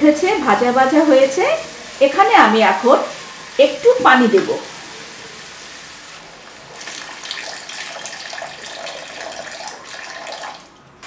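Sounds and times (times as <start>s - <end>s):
water pouring into hot pan: 0.0s - 11.0s.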